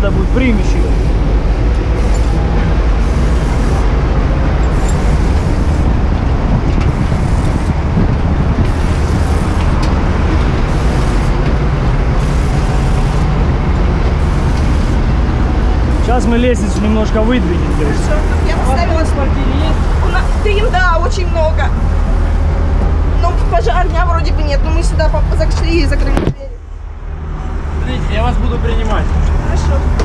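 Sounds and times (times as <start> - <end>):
fire truck engine running: 0.0 - 30.0.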